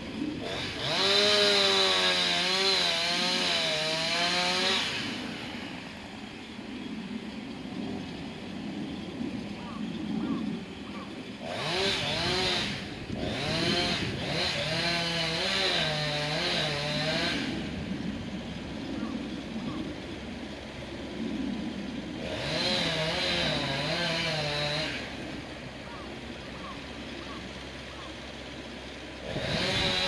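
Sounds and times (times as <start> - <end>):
chainsaw running: 0.0 - 30.0.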